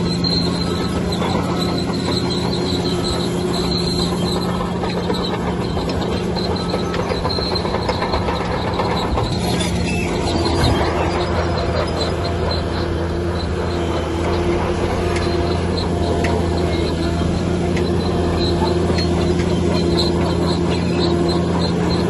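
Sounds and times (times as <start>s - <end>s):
crawler tracks squealing and clanking: 0.0s - 22.0s
diesel engine under load: 0.0s - 22.0s.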